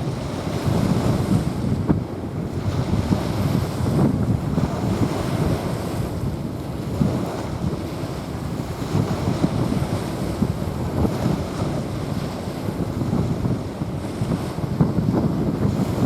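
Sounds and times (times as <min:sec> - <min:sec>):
small waves washing on sand: 0:00.0 - 0:16.0
wind buffeting microphone: 0:00.0 - 0:16.0.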